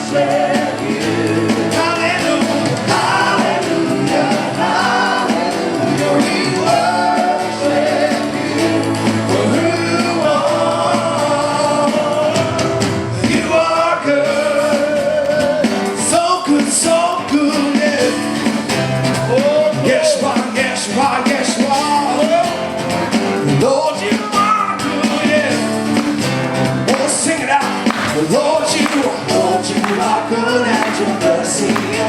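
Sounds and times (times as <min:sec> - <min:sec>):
voices singing: 0:00.0 - 0:32.0
worship band playing: 0:00.0 - 0:32.0.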